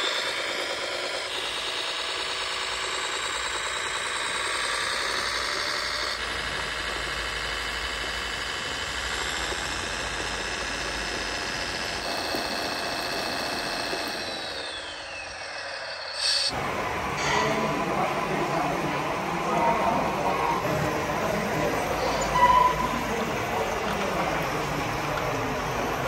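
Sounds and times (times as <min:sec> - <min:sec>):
model tractor drive whining: 0:00.0 - 0:26.0.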